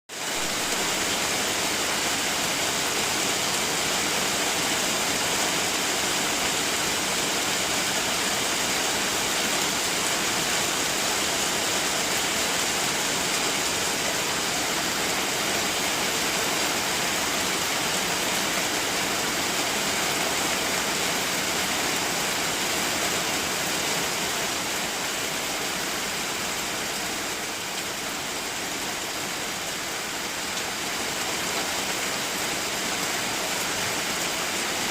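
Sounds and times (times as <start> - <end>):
rushing water hiss: 0.1 - 34.9.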